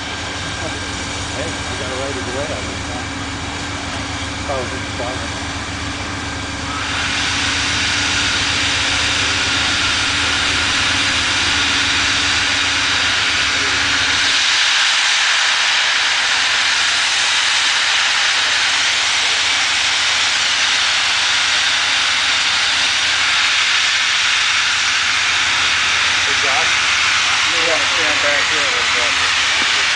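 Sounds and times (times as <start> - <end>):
steam locomotive venting steam: 0.0 - 29.9.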